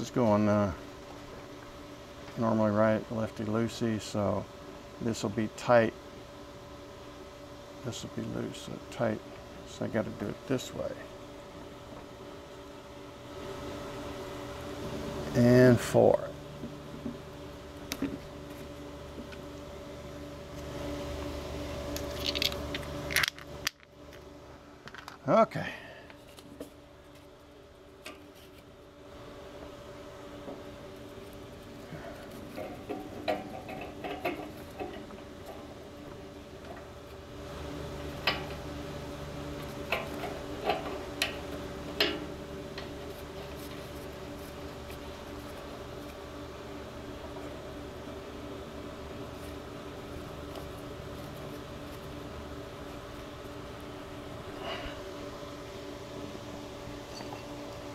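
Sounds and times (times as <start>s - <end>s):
steady mechanical hum: 0.0s - 57.9s.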